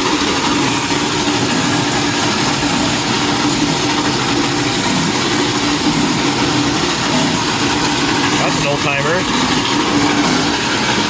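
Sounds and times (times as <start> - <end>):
motorized coconut grater running: 0.0 - 11.0.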